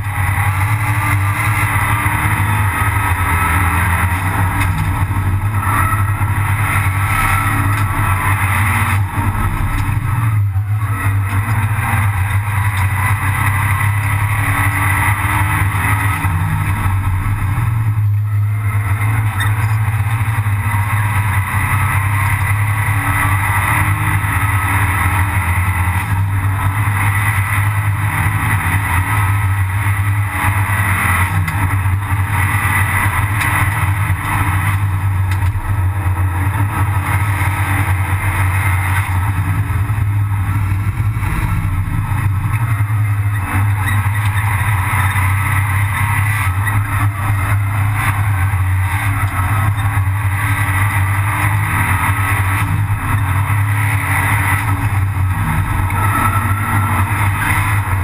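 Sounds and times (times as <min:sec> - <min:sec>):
race car engine running hard: 0:00.0 - 0:58.0
road and wind noise: 0:00.0 - 0:58.0.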